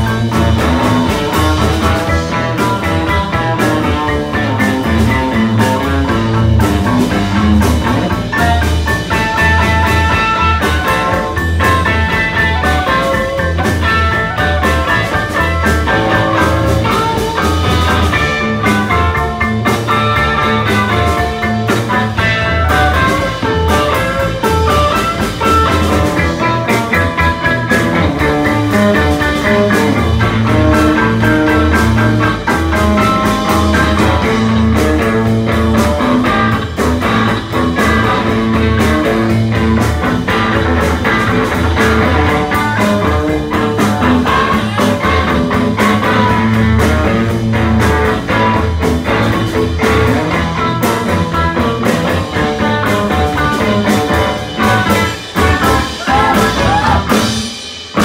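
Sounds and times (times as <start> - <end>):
drum kit beat: 0.0 - 58.0
electric bass: 0.0 - 58.0
electric guitar: 0.0 - 58.0.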